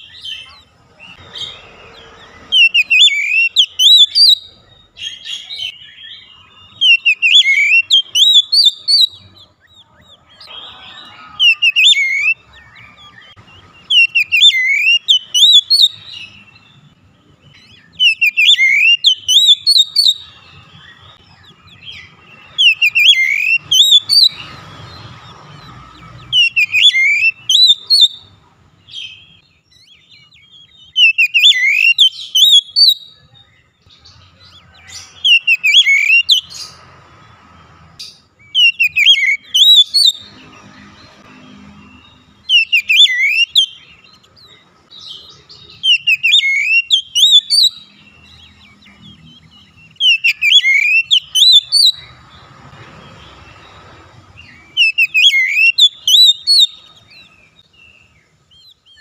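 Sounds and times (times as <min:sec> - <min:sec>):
bird whistled song: 0:00.0 - 0:36.8, 0:38.0 - 0:59.0.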